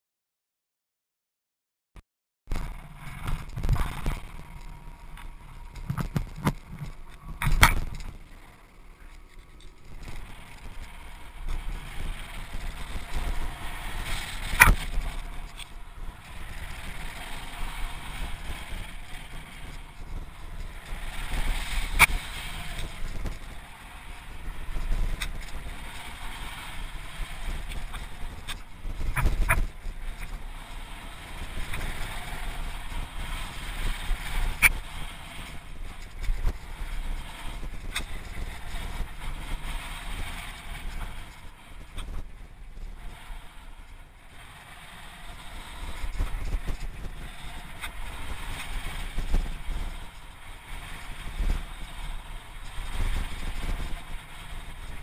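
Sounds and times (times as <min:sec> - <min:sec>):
wind buffeting microphone: 0:02.5 - 0:55.0.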